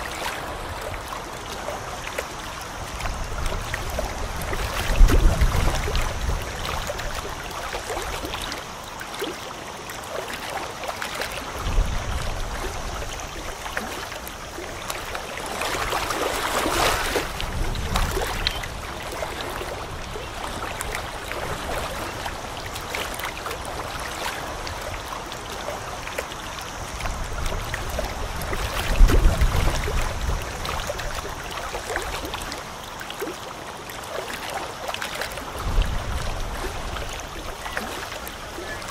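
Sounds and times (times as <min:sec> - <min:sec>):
wind rumbling on microphone: 0:00.0 - 0:08.6, 0:11.4 - 0:32.8, 0:35.4 - 0:38.9
small waves lapping: 0:00.0 - 0:38.9.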